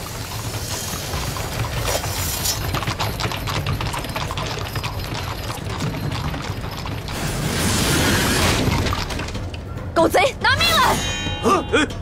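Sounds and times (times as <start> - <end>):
hooves clip-clopping on pavement: 0.0 - 9.8.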